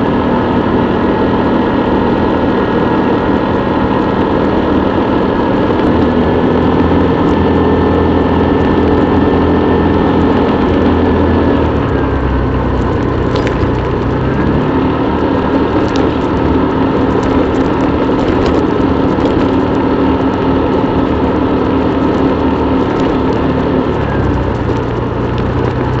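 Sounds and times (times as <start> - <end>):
motorbike engine running: 0.0 - 26.0
road and wind noise: 0.0 - 26.0.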